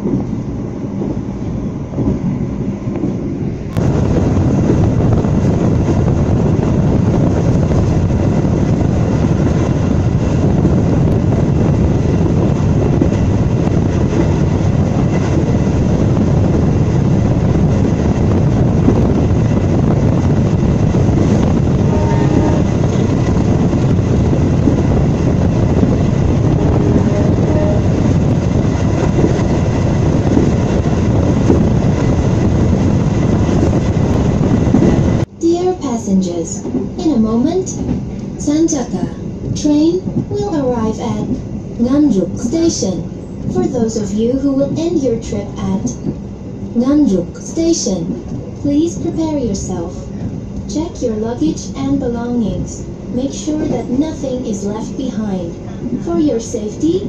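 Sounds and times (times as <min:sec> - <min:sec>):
air rushing past carriage: 0:00.0 - 0:35.4, 0:36.5 - 0:57.0
train wheels rumbling on rails: 0:00.0 - 0:57.0.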